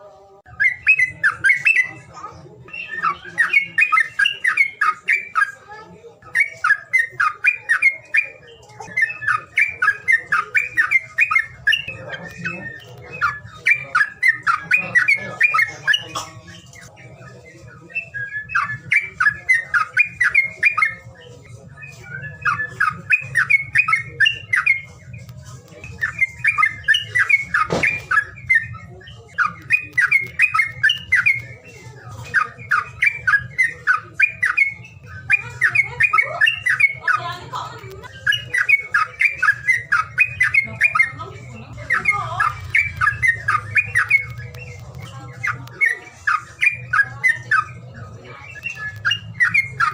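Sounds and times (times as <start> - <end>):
songbird chattering harsh notes: 0.5 - 49.9.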